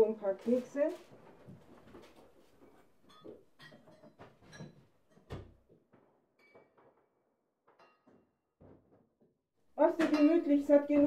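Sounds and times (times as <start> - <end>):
household things knocking and clinking: 1.4 - 11.0.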